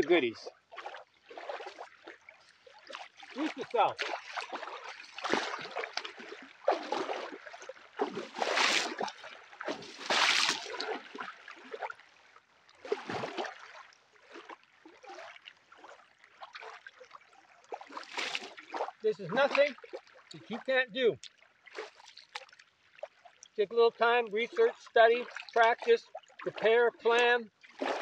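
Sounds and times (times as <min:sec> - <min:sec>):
water lapping and sloshing: 0:00.5 - 0:28.0.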